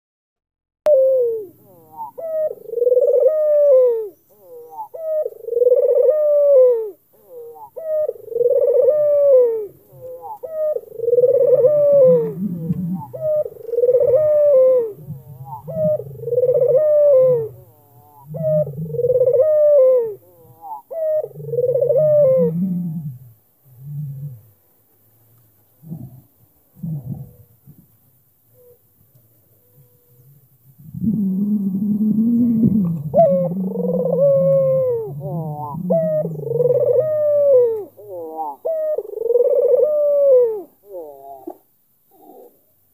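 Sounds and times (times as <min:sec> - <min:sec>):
dove cooing: 0:00.9 - 0:42.9.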